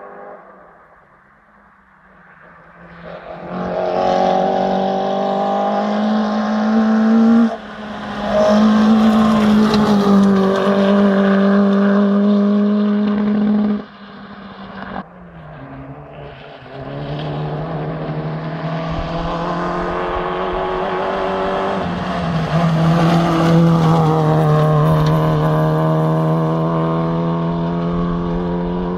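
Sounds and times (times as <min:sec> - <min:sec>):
rally car engine passing: 0:00.0 - 0:01.3, 0:02.0 - 0:28.9.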